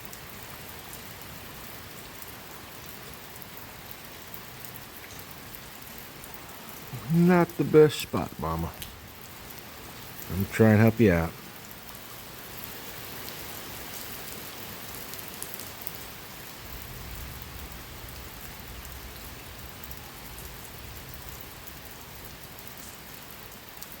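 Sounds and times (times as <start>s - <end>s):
light rain hissing: 0.0s - 24.0s.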